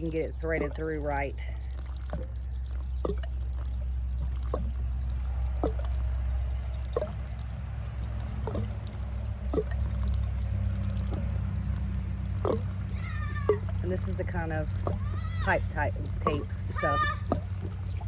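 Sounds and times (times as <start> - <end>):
drops falling into water: 0.0 - 18.0
steady low hum: 0.0 - 18.0
water draining from pipe: 0.0 - 18.0.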